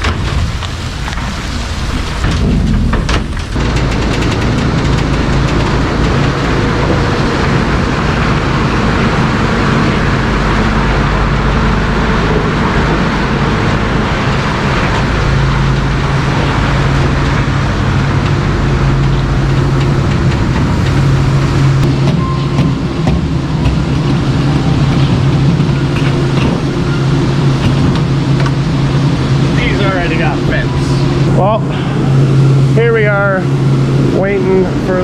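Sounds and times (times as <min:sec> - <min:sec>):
broad rush of noise: 0:00.0 - 0:35.0
truck diesel engine running: 0:00.0 - 0:35.0.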